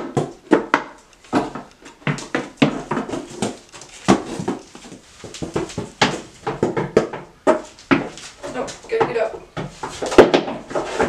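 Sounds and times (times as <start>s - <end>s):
goat hooves knocking on wood: 0.0s - 11.0s.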